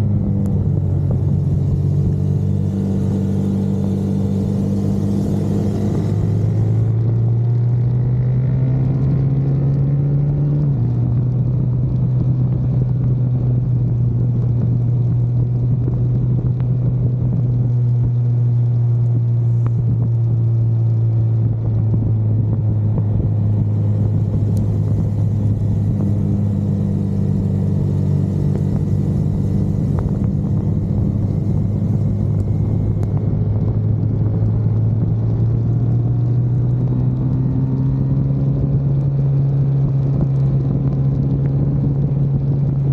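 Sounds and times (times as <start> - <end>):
car engine drone from inside: 0.0 - 42.9
tyre and road noise on wet road: 0.0 - 42.9.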